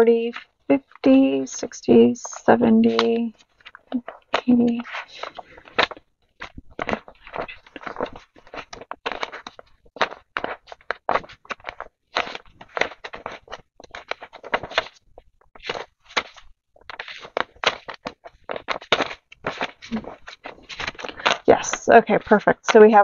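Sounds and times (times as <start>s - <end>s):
paper bills rustling: 2.0s - 23.0s.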